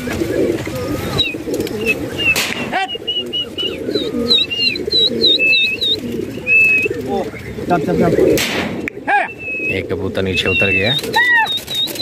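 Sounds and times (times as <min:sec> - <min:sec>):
bird chirping: 0:00.0 - 0:12.0
pigeons cooing: 0:00.0 - 0:12.0.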